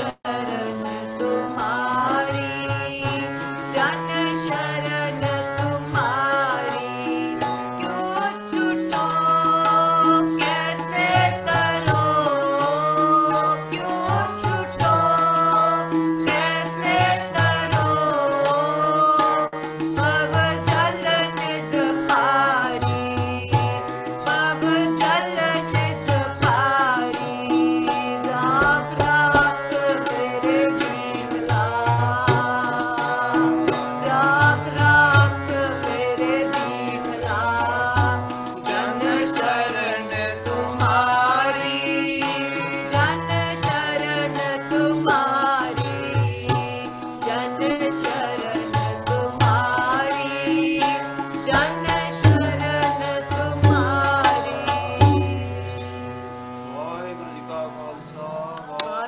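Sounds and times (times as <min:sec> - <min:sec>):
person singing a hymn: 0:00.0 - 0:59.0
tabla: 0:00.0 - 0:59.0.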